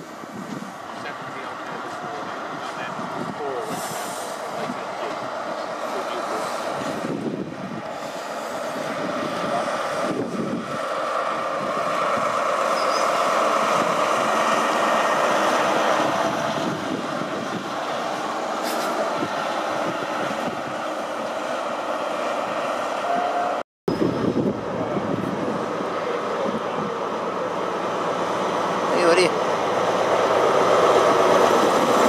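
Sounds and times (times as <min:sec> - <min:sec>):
diesel engine drone: 0:00.0 - 0:32.0
train wheels on rails: 0:00.0 - 0:32.0.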